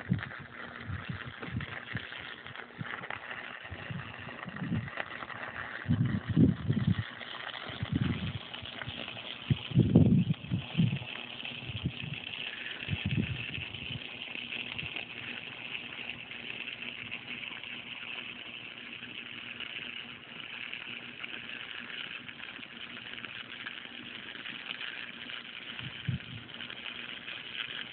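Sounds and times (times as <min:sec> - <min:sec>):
welding arc crackling: 0:00.0 - 0:27.9.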